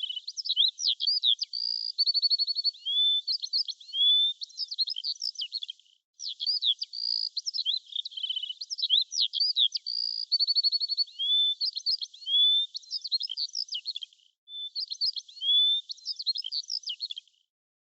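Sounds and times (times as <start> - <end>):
songbird singing: 0.0 - 17.4.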